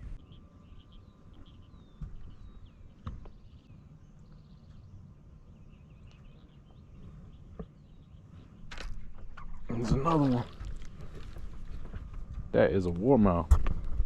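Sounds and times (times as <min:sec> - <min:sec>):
birds whistling faintly: 0:00.0 - 0:14.0.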